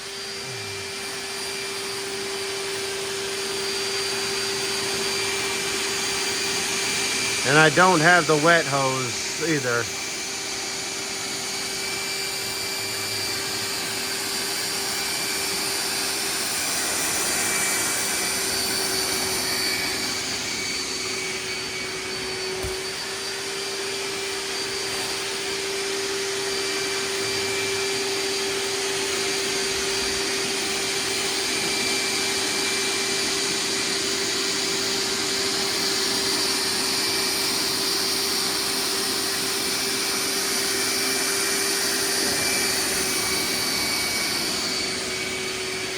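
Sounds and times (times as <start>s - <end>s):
wet vacuum cleaner humming: 0.0s - 45.9s.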